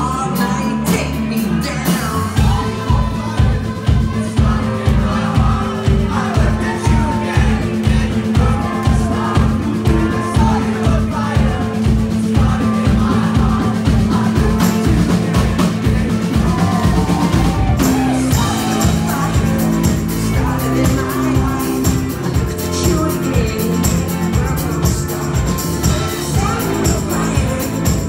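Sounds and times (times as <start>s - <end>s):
bass guitar: 0.0s - 28.0s
guitars and keyboards: 0.0s - 28.0s
person singing: 0.0s - 28.0s.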